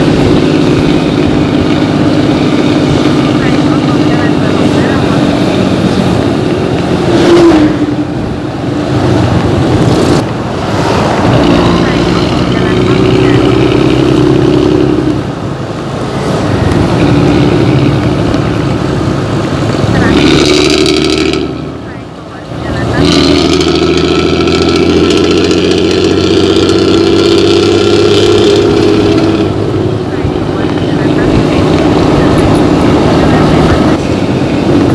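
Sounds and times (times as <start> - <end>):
bus diesel engine running rough: 0.0 - 34.9.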